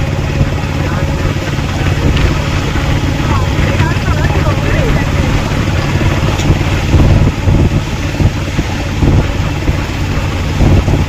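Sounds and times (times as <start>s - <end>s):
vehicle engine and road noise: 0.0s - 11.0s
wind buffeting microphone: 0.0s - 11.0s.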